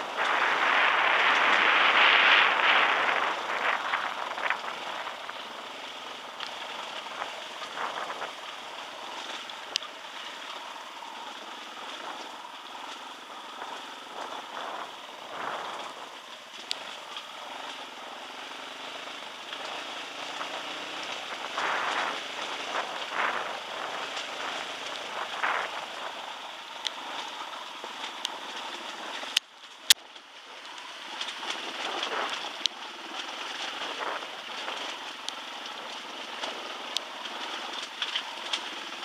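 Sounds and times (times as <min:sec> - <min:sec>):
wind and tyres rushing: 0:00.0 - 0:39.0.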